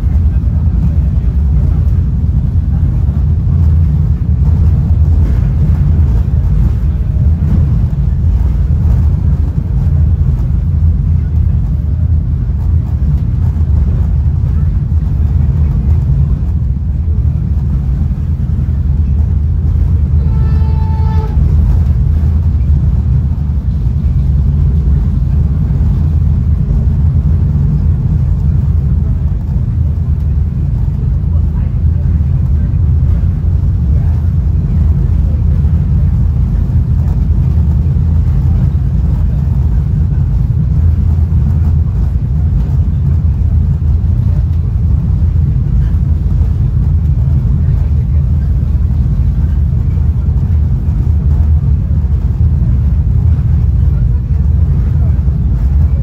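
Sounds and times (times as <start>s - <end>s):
train car rumble at speed: 0.0s - 56.0s.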